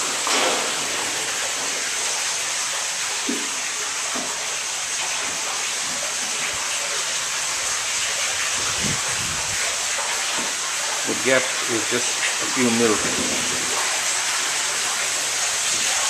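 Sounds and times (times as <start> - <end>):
water rushing through turbine: 0.0 - 16.0.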